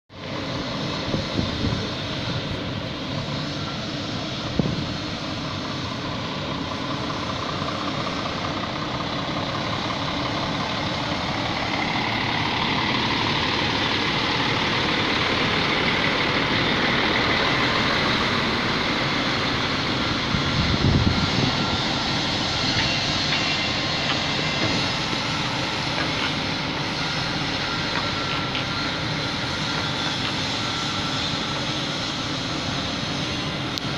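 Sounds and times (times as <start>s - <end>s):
truck diesel engine passing: 0.2s - 33.9s.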